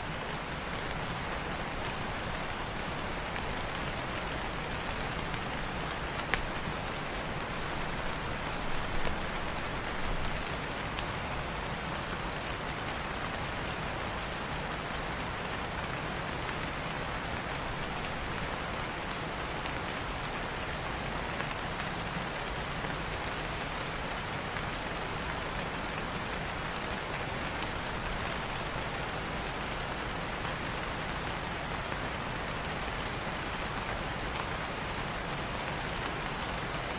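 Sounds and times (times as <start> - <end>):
rain pattering on foliage: 0.0 - 36.9.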